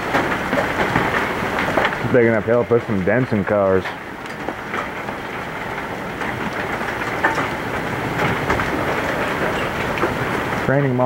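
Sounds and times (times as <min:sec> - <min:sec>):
hail and rain pelting down: 0:00.0 - 0:11.0.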